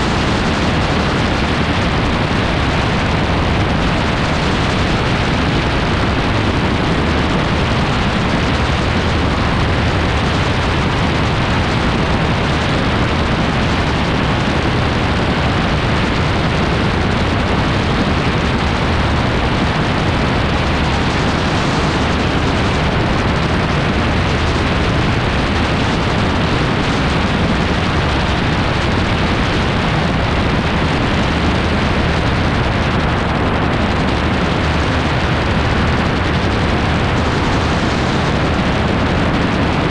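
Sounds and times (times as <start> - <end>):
gyroplane engine drone: 0.0 - 39.9
wind buffeting microphone: 0.0 - 39.9.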